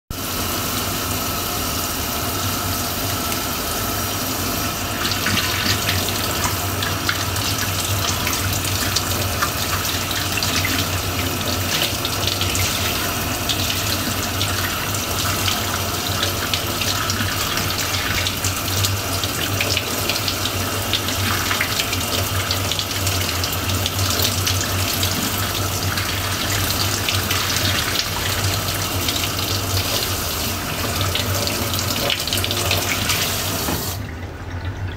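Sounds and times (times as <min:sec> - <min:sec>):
tap water splashing into metal sink: 0:05.0 - 0:34.2.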